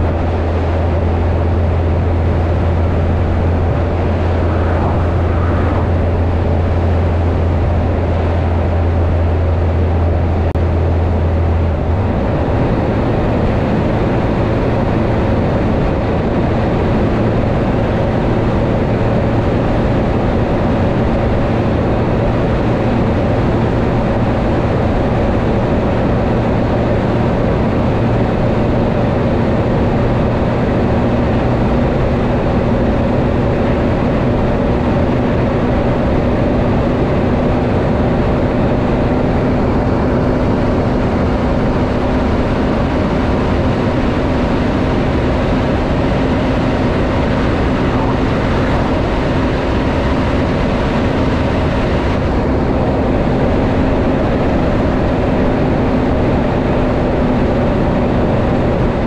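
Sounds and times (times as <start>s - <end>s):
truck diesel engine and tyres: 0.0s - 59.0s.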